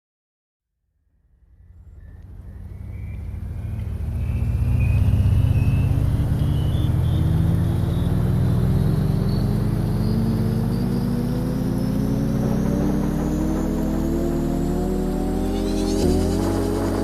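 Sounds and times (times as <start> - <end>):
vehicle engine speeding up: 1.4 - 17.0.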